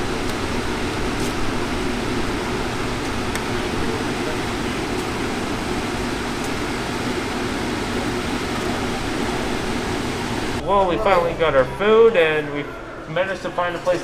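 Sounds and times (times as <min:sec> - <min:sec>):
steady outdoor roar: 0:00.0 - 0:13.1.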